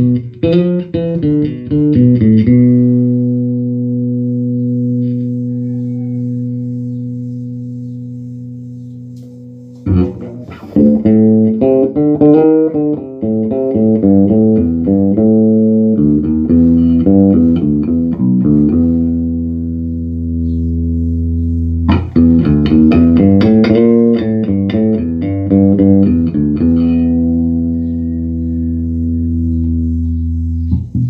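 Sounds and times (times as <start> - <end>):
electric bass guitar notes: 0.0 - 31.0.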